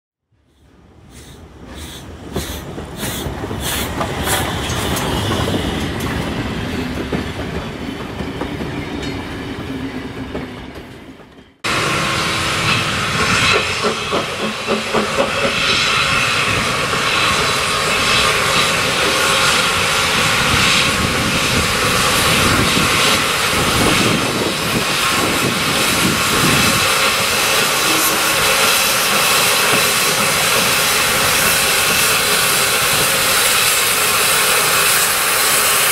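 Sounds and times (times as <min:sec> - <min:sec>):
rail sound: 0:00.3 - 0:35.9
steam hissing: 0:01.0 - 0:05.7, 0:11.7 - 0:35.9.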